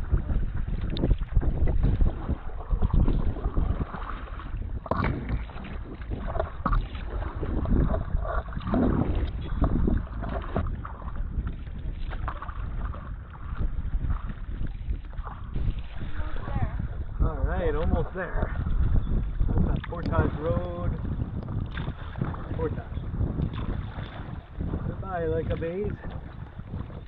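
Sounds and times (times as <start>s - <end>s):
paddle strokes splashing: 0.0s - 17.2s, 17.8s - 27.0s
water slapping hull: 0.0s - 27.0s
wind rumble on microphone: 0.0s - 27.0s.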